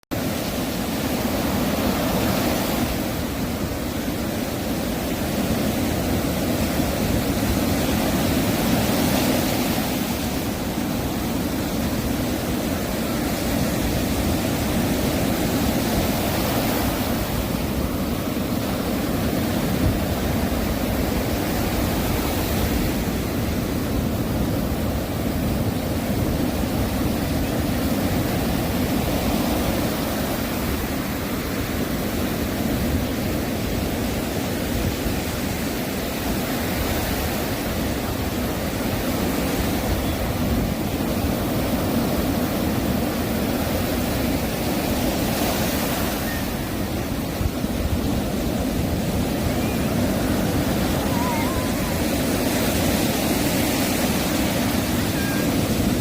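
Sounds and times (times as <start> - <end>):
ocean waves breaking on beach: 0.1 - 56.0.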